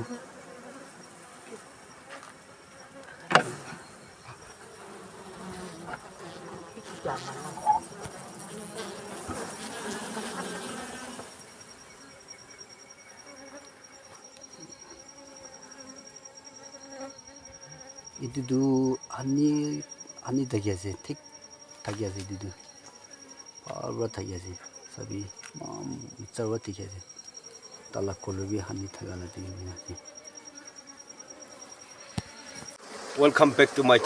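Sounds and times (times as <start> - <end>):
honeybees buzzing: 0.0 - 33.9.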